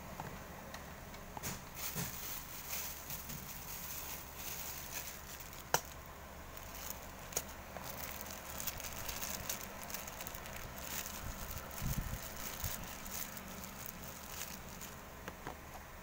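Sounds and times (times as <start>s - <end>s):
plastic and cardboard rustles: 1.4s - 15.4s.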